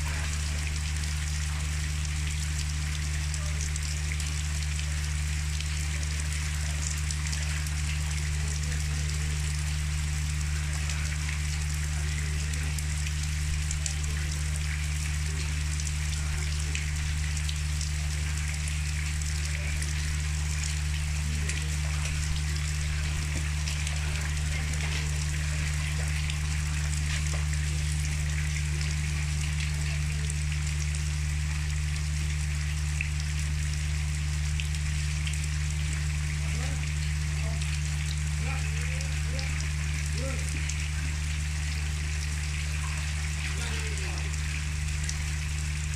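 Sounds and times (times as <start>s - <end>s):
constant low hum: 0.0s - 45.9s
drops ticking: 0.0s - 45.9s
steady rain pattering: 0.0s - 45.9s.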